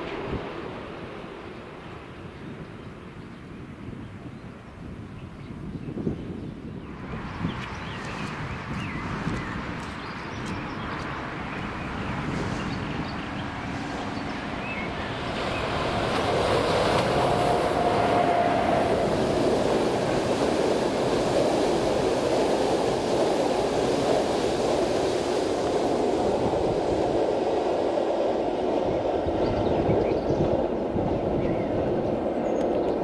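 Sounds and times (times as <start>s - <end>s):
passenger train rumbling past: 0.0s - 5.0s, 6.5s - 33.0s.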